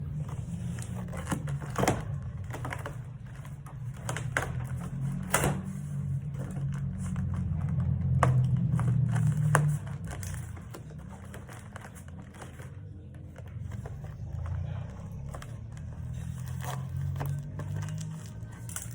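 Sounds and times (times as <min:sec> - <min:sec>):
packaging being unpacked: 0:00.0 - 0:18.9.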